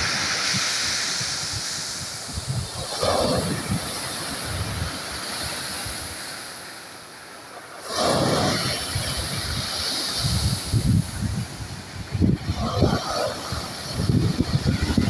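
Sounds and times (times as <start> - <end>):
wind buffeting microphone: 0.0 - 6.4, 8.0 - 15.0
sea waves washing on shore: 0.0 - 15.0.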